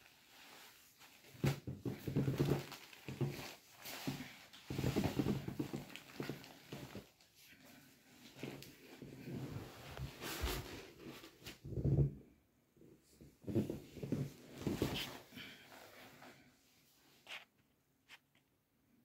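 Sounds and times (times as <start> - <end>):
silk fabric rustling: 0.0 - 12.1, 13.0 - 18.2.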